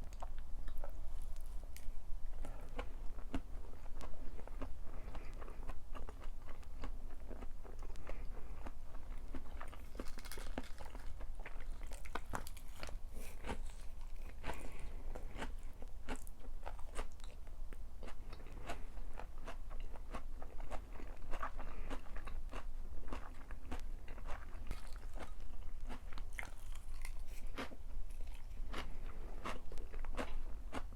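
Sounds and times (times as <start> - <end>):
crunchy food chewing: 0.0 - 30.9
low steady hum: 0.0 - 30.9.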